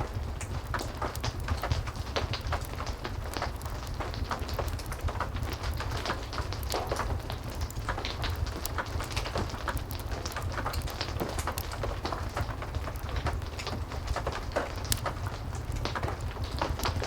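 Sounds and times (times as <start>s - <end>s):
fireplace crackling: 0.0s - 17.0s
heavy rain: 0.0s - 17.0s.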